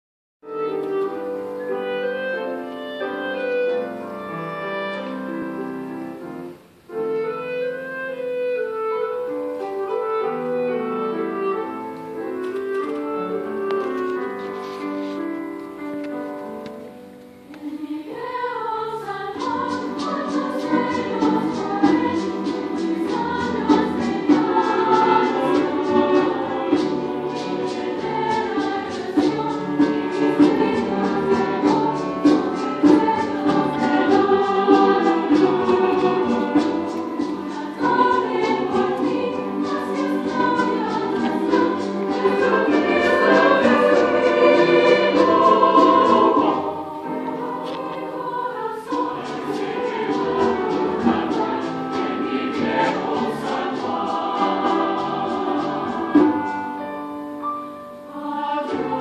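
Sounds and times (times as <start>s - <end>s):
piano: 0.4s - 59.0s
choir singing in harmony: 0.5s - 59.0s.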